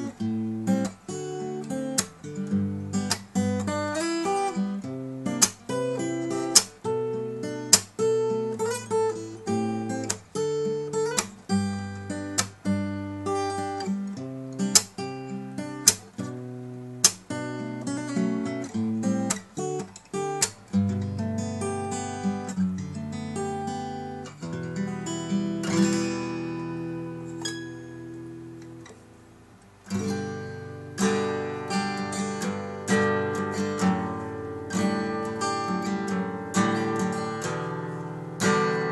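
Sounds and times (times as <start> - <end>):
nylon-string guitar playing: 0.0 - 38.9.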